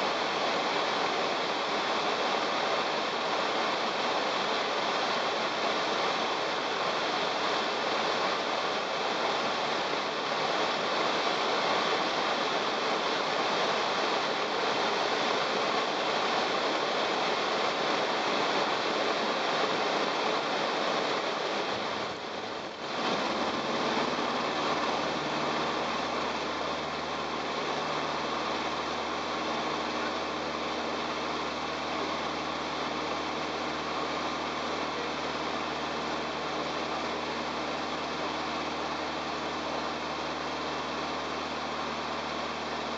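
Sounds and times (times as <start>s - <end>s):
airflow and rolling noise: 0.0s - 42.9s
light aircraft engine: 0.0s - 42.9s.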